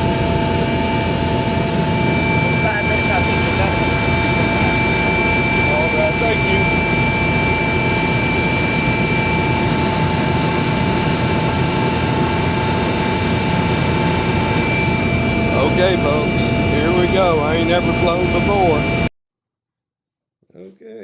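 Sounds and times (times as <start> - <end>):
helicopter engine and rotor noise: 0.0 - 19.1
high whine: 0.0 - 19.1.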